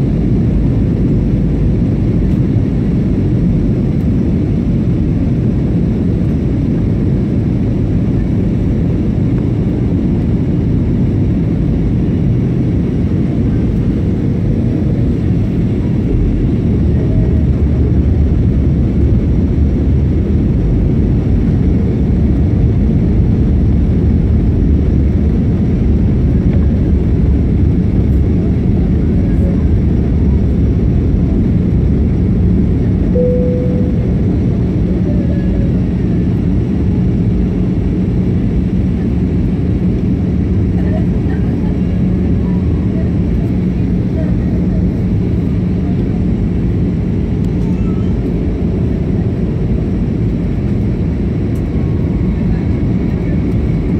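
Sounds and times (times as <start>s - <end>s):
airplane engines roaring in cabin: 0.0s - 53.9s.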